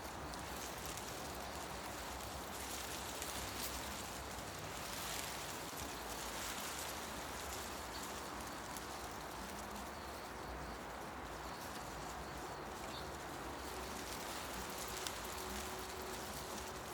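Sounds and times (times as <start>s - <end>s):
wind through tree leaves: 0.0s - 16.9s.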